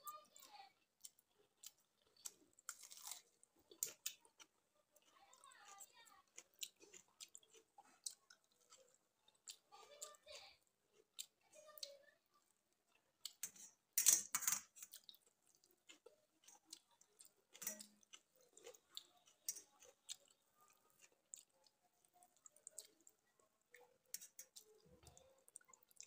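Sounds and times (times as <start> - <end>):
chewing with wet mouth clicks: 0.3 - 10.2, 10.9 - 13.8, 14.6 - 26.0.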